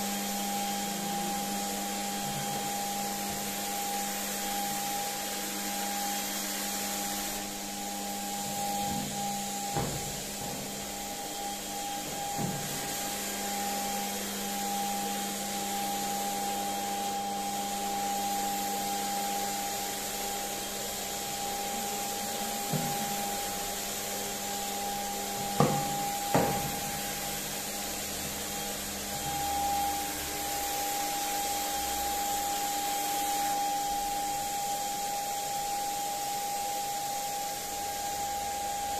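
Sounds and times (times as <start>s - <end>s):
paint sprayer whine and hiss: 0.0s - 38.9s.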